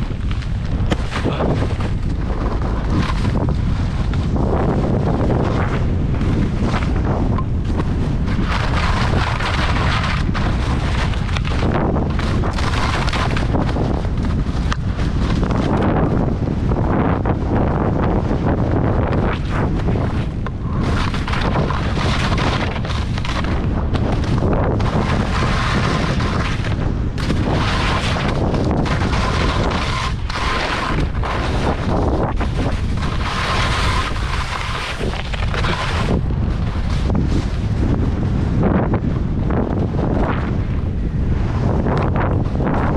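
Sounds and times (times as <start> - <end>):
skis scraping over hard snow: 0.0 - 42.9
wind rumbling on microphone: 0.0 - 42.9.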